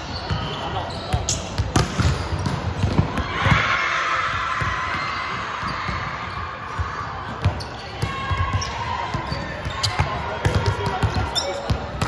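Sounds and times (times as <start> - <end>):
ball bouncing on hall floor: 0.2 - 3.7, 4.5 - 12.0.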